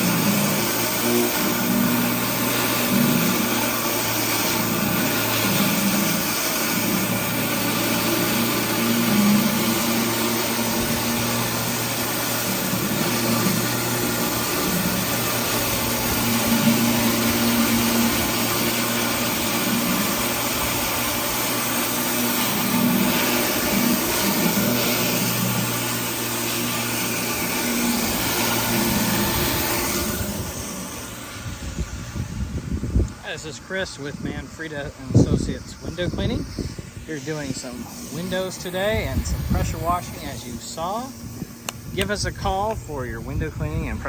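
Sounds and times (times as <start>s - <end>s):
high-pressure water spray hissing: 0.0s - 44.0s
pressure washer engine drone: 0.0s - 44.0s.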